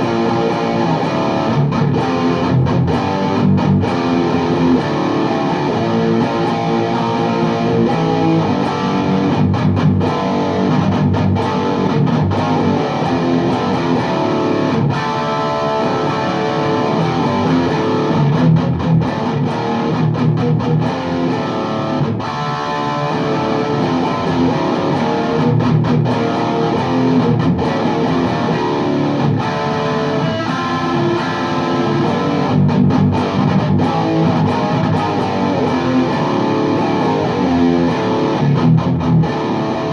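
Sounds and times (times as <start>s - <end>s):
distorted electric guitar riffing: 0.0s - 39.9s.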